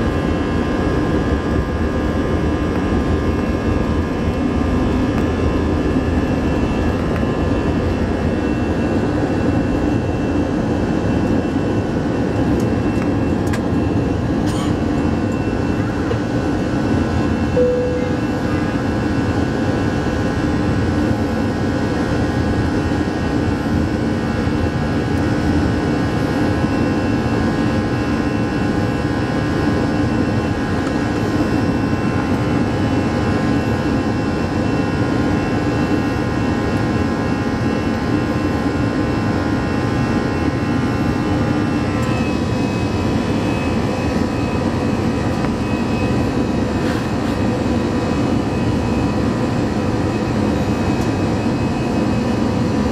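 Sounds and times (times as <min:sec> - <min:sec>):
engine whine: 0:00.0 - 0:52.9
jet engine roar in cabin: 0:00.0 - 0:52.9.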